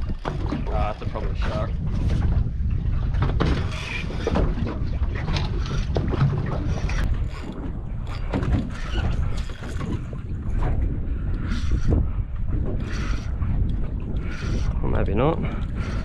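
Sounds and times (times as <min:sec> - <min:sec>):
boat low rumble: 0:00.0 - 0:16.0
wind on the microphone: 0:00.0 - 0:16.0.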